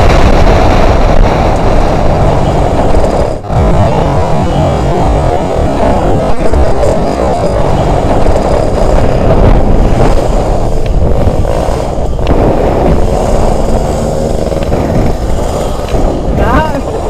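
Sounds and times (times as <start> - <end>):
two-stroke motorcycle engine running: 0.0 - 17.0
wind buffeting microphone: 0.0 - 17.0.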